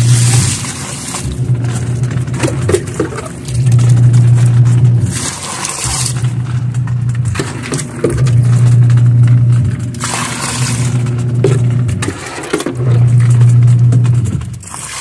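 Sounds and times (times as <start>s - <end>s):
washing machine motor humming: 0.0s - 15.0s
water churning in tub: 0.0s - 15.0s.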